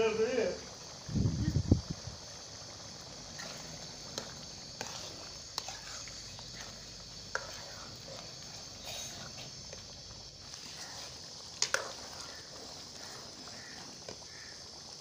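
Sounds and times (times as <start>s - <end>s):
curry bubbling and sizzling: 0.0s - 15.0s.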